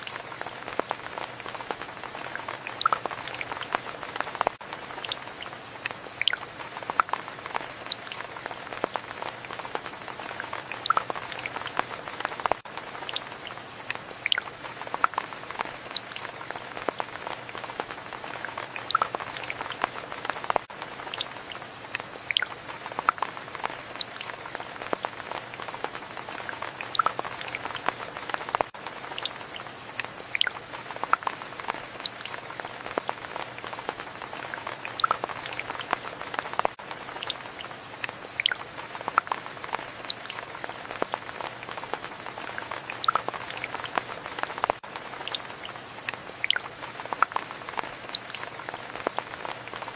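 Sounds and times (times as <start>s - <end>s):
rain drops dripping: 0.0s - 49.9s.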